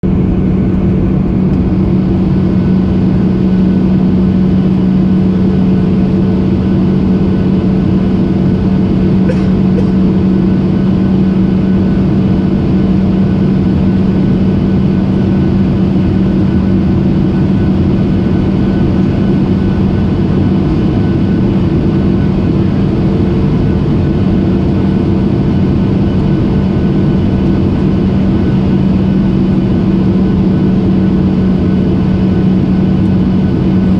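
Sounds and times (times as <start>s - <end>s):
airliner cabin engine drone: 0.0s - 33.9s
constant low hum: 0.0s - 33.9s.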